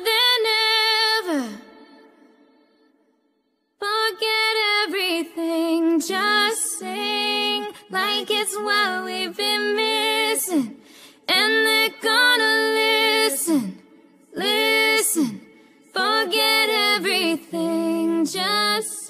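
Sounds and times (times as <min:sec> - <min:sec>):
person singing pop song: 0:00.0 - 0:02.4, 0:03.8 - 0:19.0.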